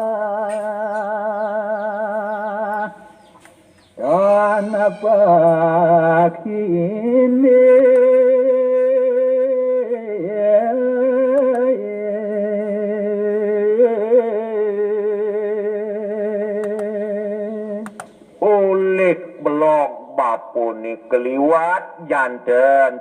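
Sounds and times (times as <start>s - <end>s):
person singing through horn loudspeaker: 4.0s - 17.8s, 18.4s - 23.0s.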